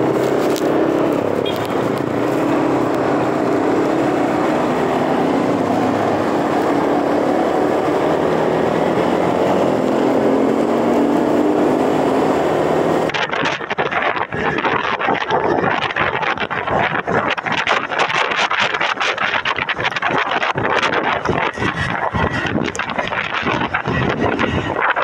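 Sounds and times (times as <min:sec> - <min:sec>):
motorcycle engine running: 0:00.0 - 0:25.0
wind gusting on microphone: 0:00.0 - 0:25.0
wind rush: 0:00.0 - 0:25.0.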